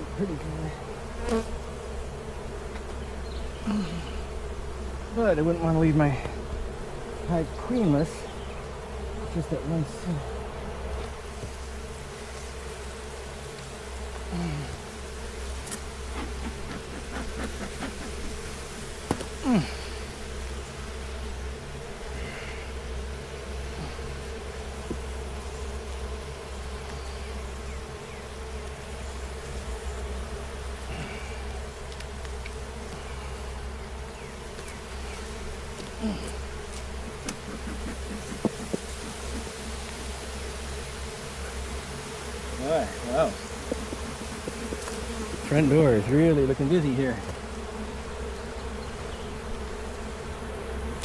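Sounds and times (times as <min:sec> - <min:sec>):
bees buzzing: 0:00.0 - 0:51.0.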